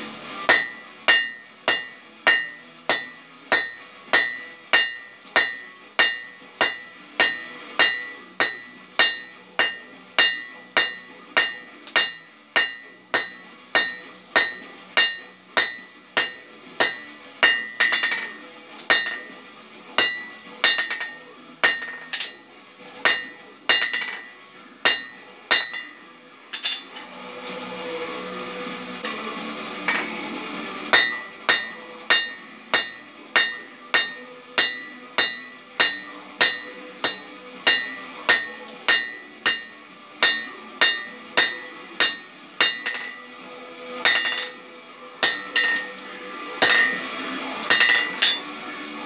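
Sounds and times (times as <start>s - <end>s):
hammer striking hot steel on anvil: 0.0s - 49.0s.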